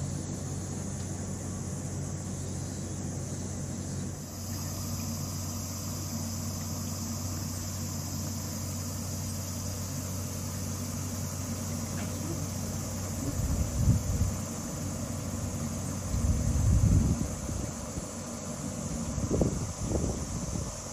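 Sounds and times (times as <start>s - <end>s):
faint high hiss: 0.0s - 20.9s
low machine hum: 0.0s - 20.9s.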